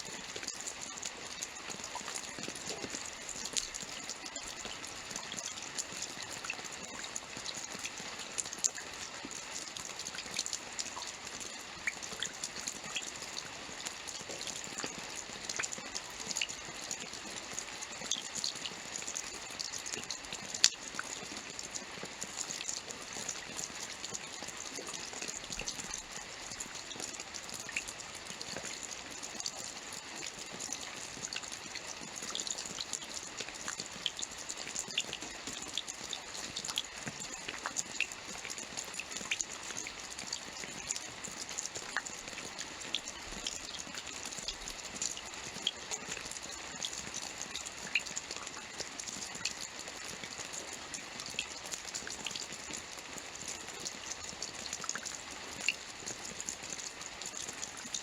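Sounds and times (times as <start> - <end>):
rain drop ticks: 0.0 - 58.0
steady rainfall: 0.0 - 58.0.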